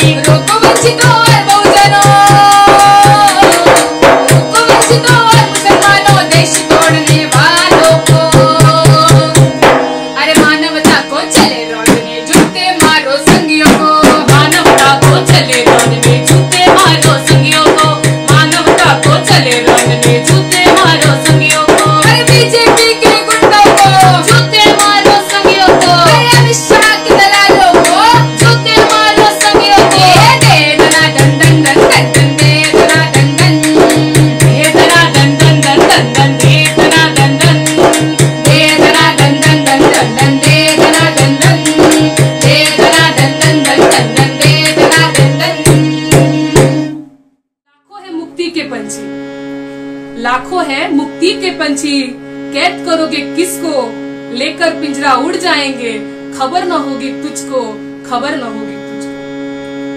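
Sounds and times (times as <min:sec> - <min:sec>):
woman singing: 0:00.0 - 0:09.6, 0:10.2 - 0:46.9, 0:50.2 - 0:58.8
harmonium: 0:00.0 - 0:47.2, 0:47.9 - 0:59.9.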